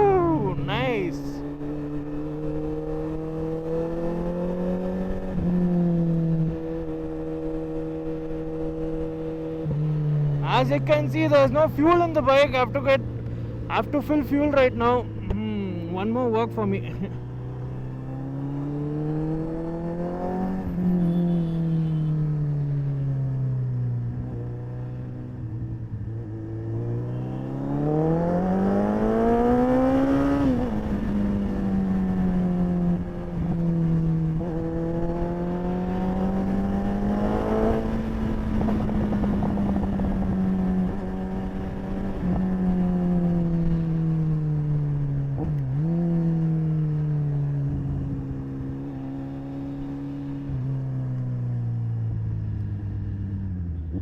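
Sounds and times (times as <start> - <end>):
motorcycle engine accelerating: 0.0 - 10.9, 16.6 - 54.0.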